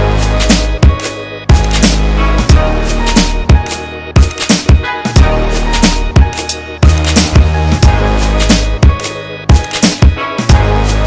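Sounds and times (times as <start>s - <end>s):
electronic music with deep bass: 0.0s - 11.0s
punchy kick drum beat: 0.0s - 11.0s.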